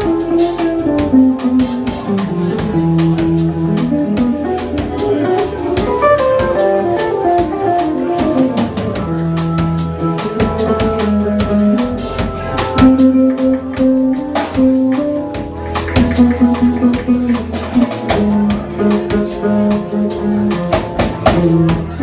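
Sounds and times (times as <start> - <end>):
drums keeping a busy beat: 0.0 - 22.0
live instrumental band: 0.0 - 22.0.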